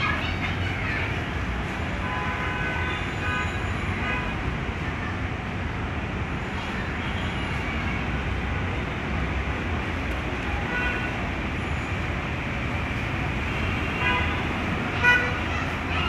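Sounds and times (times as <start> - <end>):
street traffic passing: 0.0 - 16.0.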